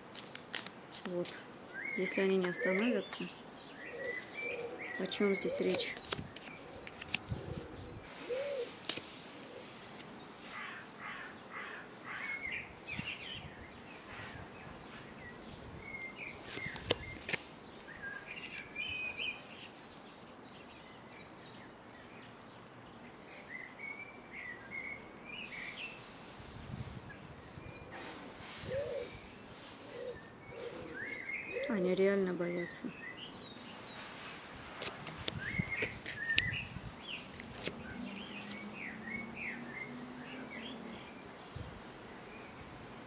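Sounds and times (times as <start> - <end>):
birds chirping: 0.0 - 43.0
outdoor background hiss: 0.0 - 43.0.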